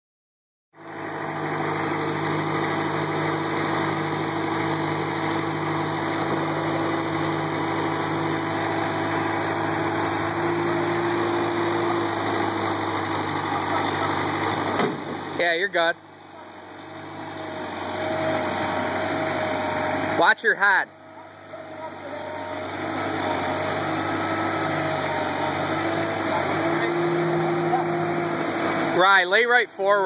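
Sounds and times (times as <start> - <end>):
excavator diesel engine running: 0.8 - 30.0.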